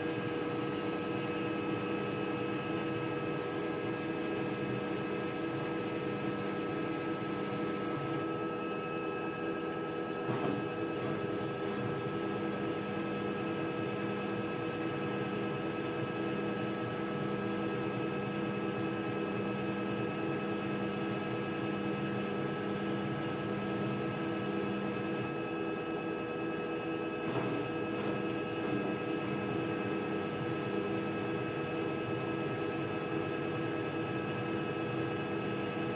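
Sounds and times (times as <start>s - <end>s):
washing machine spinning: 0.0s - 35.9s.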